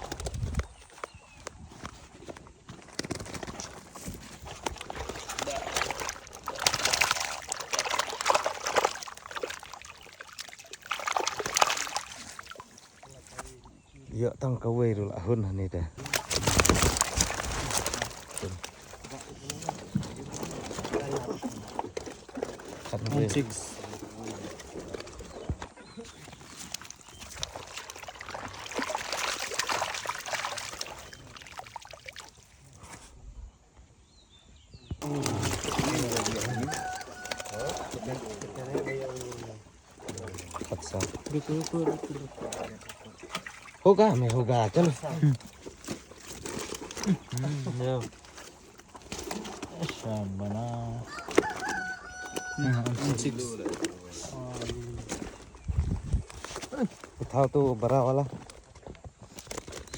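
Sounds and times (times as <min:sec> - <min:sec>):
water splashing and trickling: 0:00.0 - 0:14.3, 0:16.0 - 0:33.1, 0:35.0 - 0:59.9.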